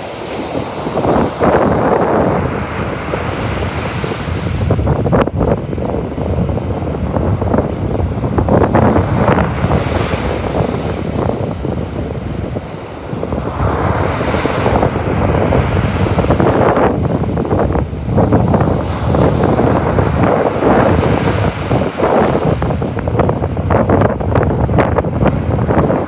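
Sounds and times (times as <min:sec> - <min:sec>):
surf washing up a beach: 0:00.0 - 0:26.0
wind buffeting microphone: 0:00.0 - 0:26.0.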